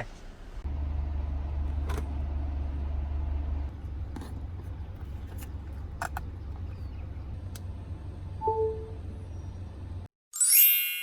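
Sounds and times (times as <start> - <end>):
car cabin rumble: 0.7 - 10.0.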